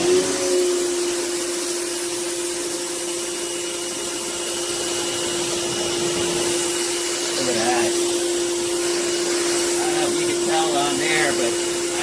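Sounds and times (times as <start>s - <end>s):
pressure washer motor whine: 0.0s - 12.0s
water jet hissing: 0.0s - 12.0s.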